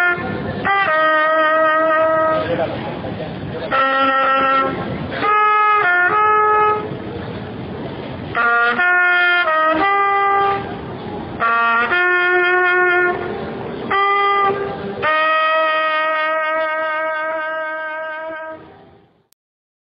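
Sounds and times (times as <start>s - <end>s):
trumpet playing slow melody: 0.0s - 2.7s, 3.6s - 7.1s, 8.2s - 19.4s
background hiss: 0.0s - 19.4s.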